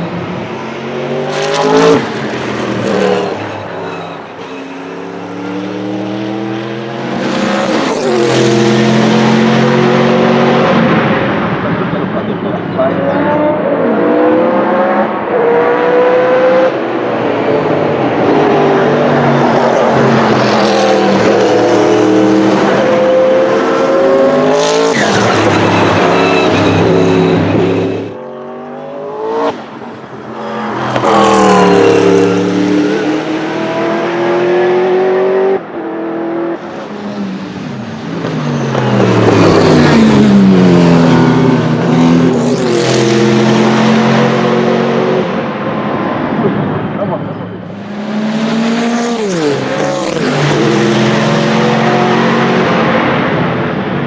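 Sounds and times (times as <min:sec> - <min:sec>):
racing car engine at high revs: 0:00.0 - 0:54.0.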